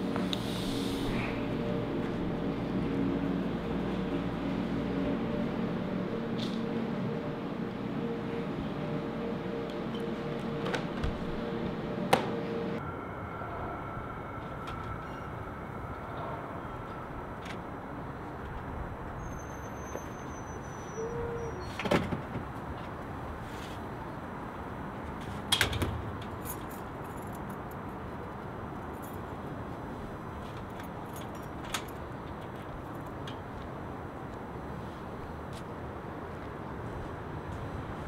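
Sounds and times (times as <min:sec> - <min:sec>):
city street background noise: 0:00.0 - 0:38.0.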